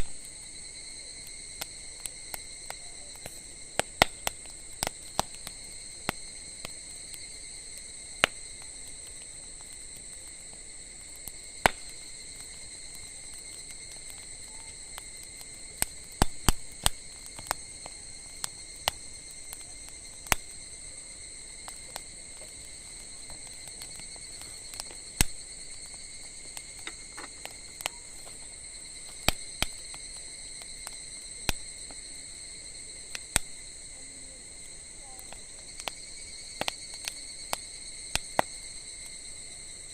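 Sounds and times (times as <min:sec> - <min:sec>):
campfire crackling and popping: 0:00.0 - 0:39.9
insects trilling: 0:00.0 - 0:39.9.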